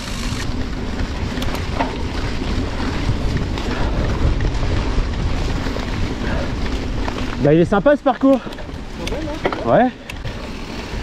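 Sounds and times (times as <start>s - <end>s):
bike clicks and rattles: 0.0s - 11.0s
bike tyres over leaves: 0.0s - 11.0s
wind rumble on microphone: 0.1s - 11.0s.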